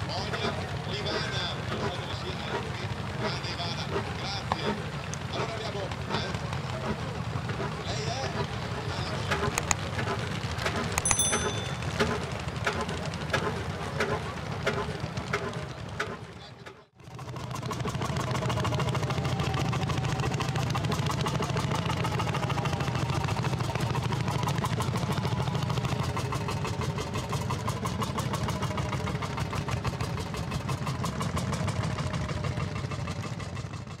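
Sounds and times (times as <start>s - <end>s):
engine idling with mechanical clatter: 0.0s - 34.0s.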